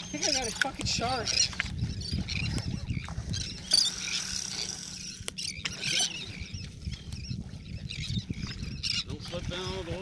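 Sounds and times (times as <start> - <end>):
seabirds calling: 0.0 - 10.0.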